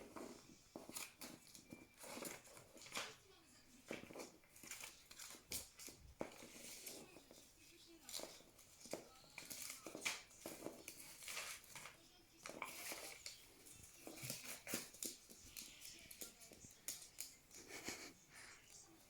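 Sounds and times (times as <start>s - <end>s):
parrot shredding paper: 0.0s - 18.5s.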